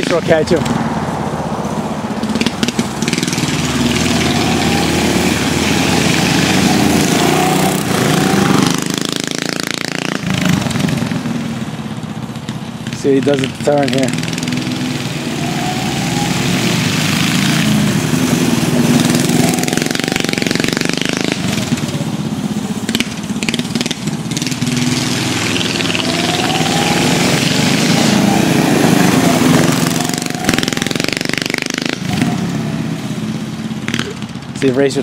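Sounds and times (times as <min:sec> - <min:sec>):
small engines racing: 0:00.0 - 0:35.0.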